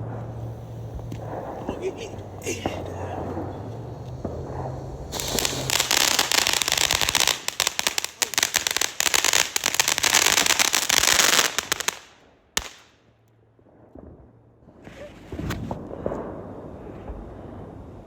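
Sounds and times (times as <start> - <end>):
firecrackers crackling: 0.0 - 16.7.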